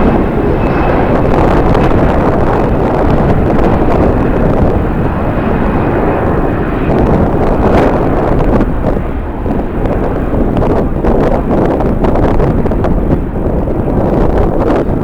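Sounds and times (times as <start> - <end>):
jet engines running: 0.0 - 15.0
wind rumbling on microphone: 0.0 - 15.0.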